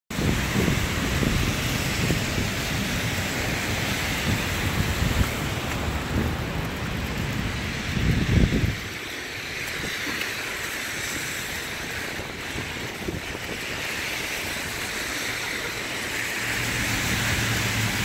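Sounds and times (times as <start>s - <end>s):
street hiss: 0.1s - 18.0s
wind gusting on microphone: 0.1s - 18.0s.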